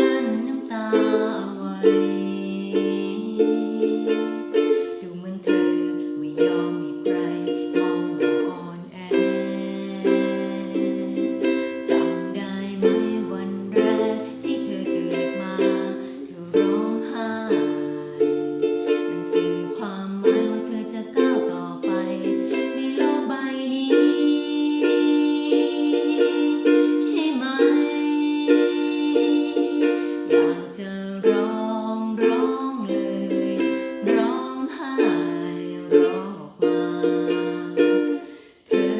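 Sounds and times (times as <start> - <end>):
ukulele playing: 0.0 - 38.9.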